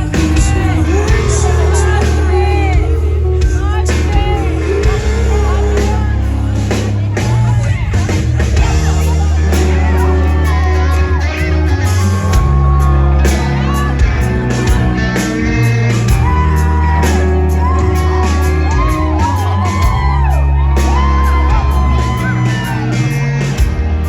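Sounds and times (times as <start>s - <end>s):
crowd shouting and whooping: 0.0s - 24.0s
live rock band playing: 0.0s - 24.0s.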